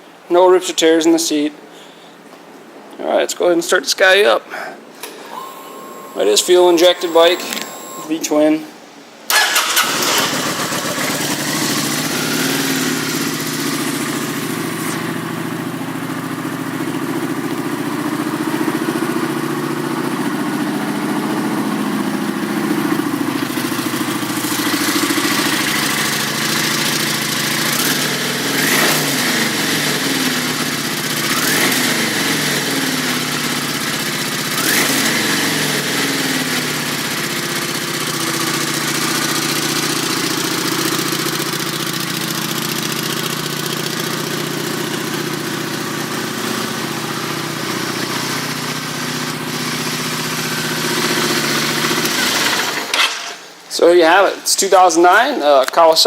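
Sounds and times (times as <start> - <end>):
motorcycle engine starting and idling: 5.3 - 8.1, 9.3 - 53.6
engine revving: 5.4 - 8.1, 9.3 - 53.0.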